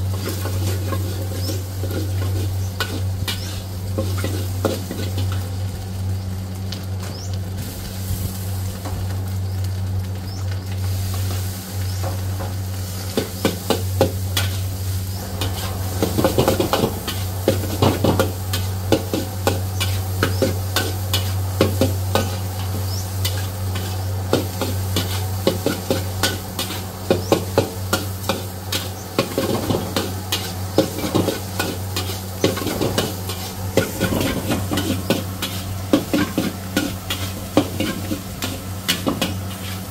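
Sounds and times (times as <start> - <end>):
metal spatula scraping a wok: 0.0 - 5.6, 12.9 - 39.9
rice sizzling in a wok: 0.0 - 39.9
steady low hum: 0.0 - 39.9.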